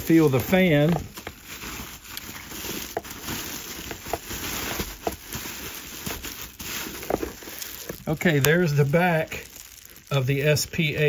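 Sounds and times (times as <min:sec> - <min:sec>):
bubble wrap rustling and crackling: 0:00.0 - 0:11.0.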